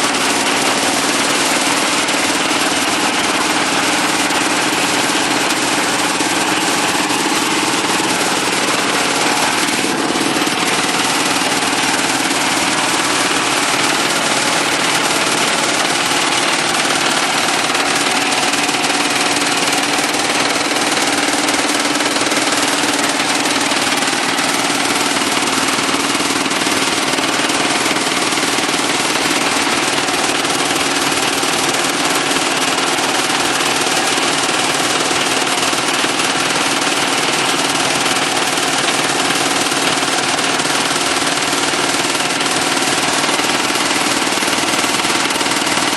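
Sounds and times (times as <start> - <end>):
concrete mixer pump running: 0.0 - 45.9.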